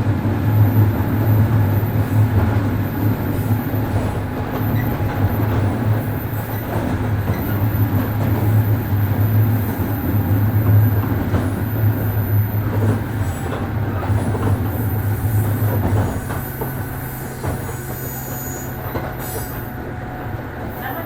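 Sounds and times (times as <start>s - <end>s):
train wheels rolling on rail: 0.0s - 21.0s.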